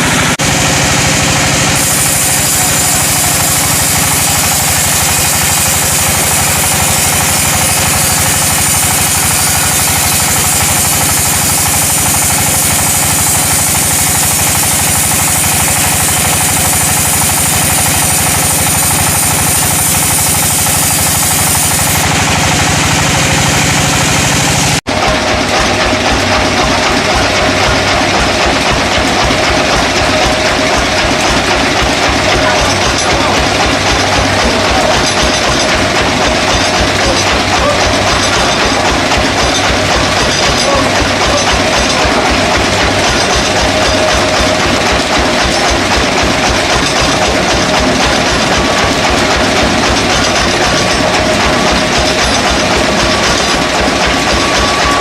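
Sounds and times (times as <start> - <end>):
loud machine hiss: 0.0 - 55.0
rough rhythmic machine sound: 0.0 - 55.0
sawmill engine drone: 0.0 - 55.0.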